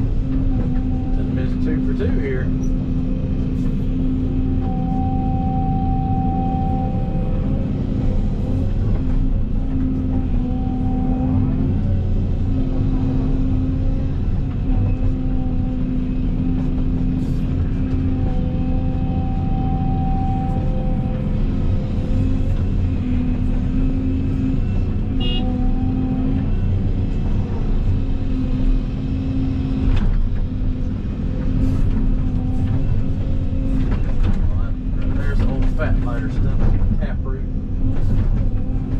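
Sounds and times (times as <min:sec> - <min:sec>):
whining tone: 0:00.0 - 0:36.3
excavator diesel engine running: 0:00.0 - 0:38.9.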